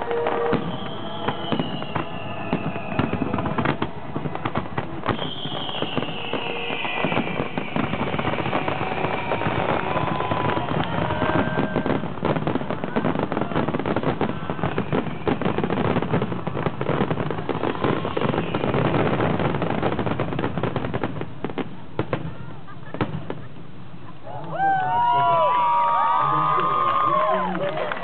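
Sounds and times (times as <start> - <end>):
fireworks booms: 0.0 - 23.5
fireworks cracking bangs: 0.0 - 23.6.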